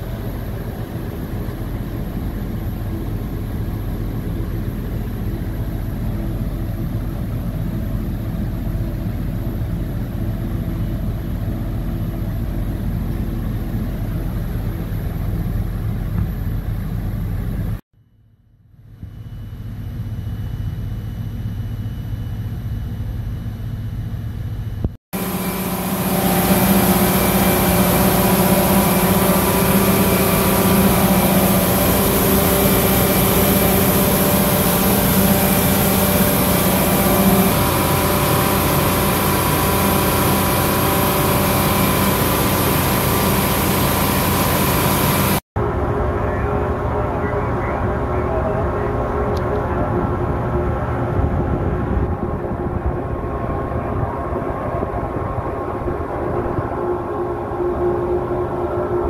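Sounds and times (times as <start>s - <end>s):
diesel generator drone: 0.0s - 17.8s, 18.6s - 59.0s
strong steady low hum: 0.0s - 59.0s.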